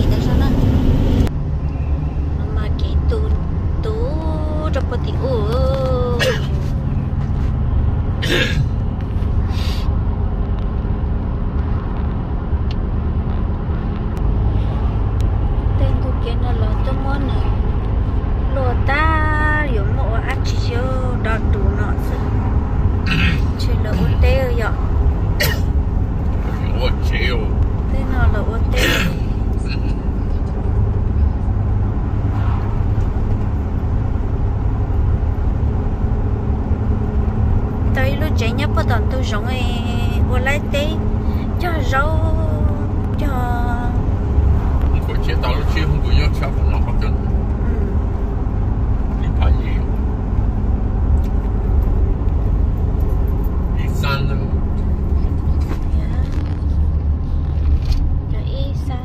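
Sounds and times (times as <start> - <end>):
road vehicle rumbling: 0.0 - 59.0.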